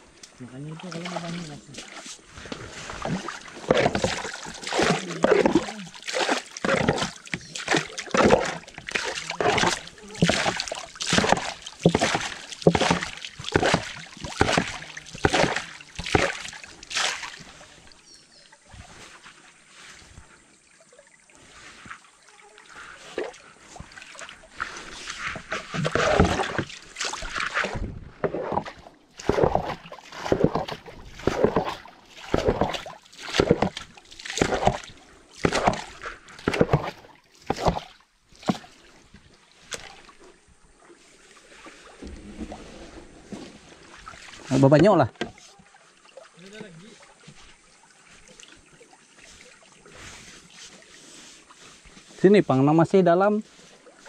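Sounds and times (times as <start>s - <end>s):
paddle strokes splashing water: 0.0s - 54.0s.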